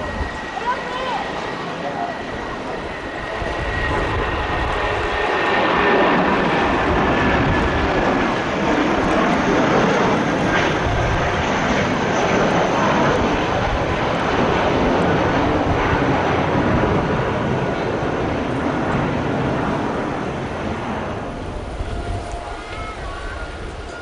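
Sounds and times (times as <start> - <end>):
jet airliner engines roaring: 0.0 - 24.0.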